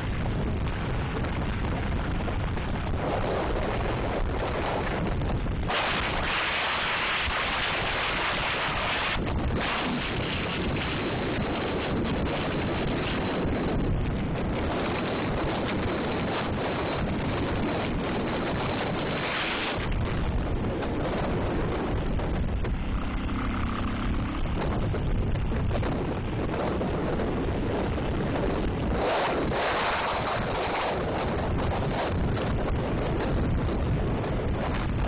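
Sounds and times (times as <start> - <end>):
wind and road noise: 0.0 - 35.0
wind buffeting microphone: 0.0 - 35.0.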